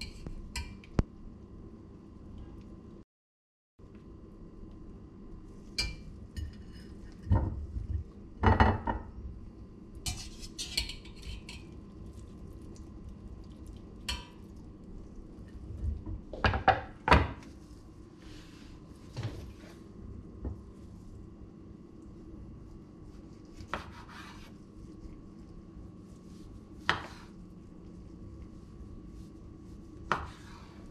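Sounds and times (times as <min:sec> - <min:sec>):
steady low hum: 0:00.0 - 0:03.0, 0:03.8 - 0:30.9.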